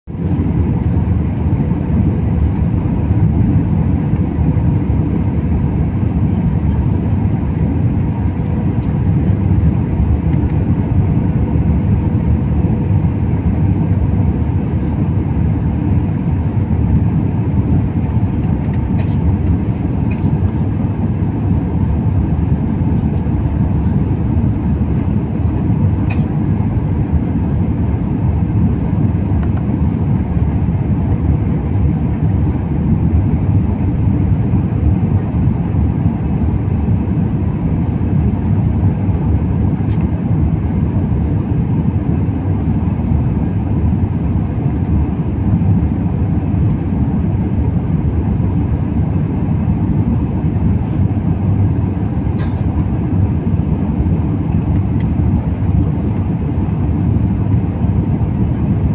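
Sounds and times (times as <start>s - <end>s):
airliner cabin engine rumble: 0.1s - 58.9s.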